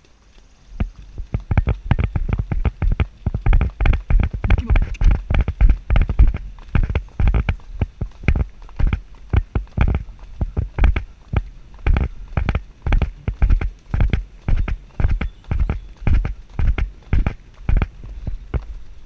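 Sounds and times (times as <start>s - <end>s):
horse hooves on stony track: 0.0s - 19.0s.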